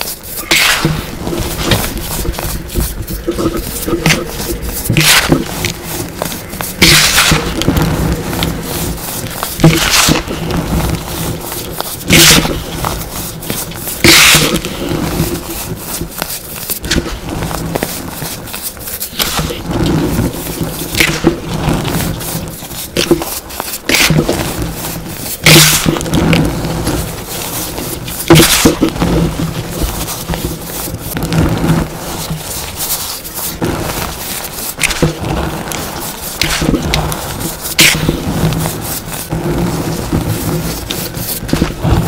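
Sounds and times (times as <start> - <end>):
baking soda crunching in hands: 0.0 - 42.0
soft rubbing: 0.0 - 42.0.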